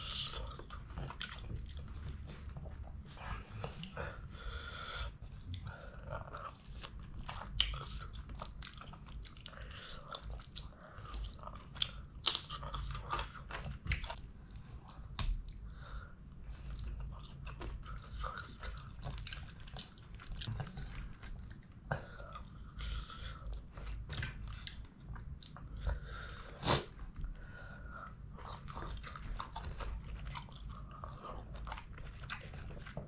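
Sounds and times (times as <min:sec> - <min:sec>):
man chewing food: 0:00.0 - 0:33.0.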